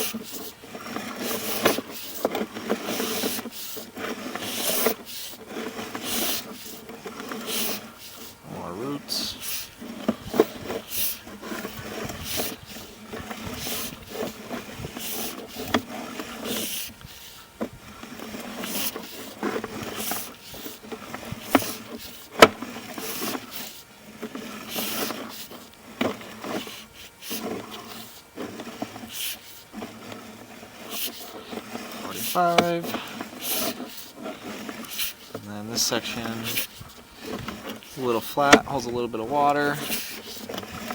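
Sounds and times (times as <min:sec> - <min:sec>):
push cable rubbing and scraping: 0:00.0 - 0:40.9.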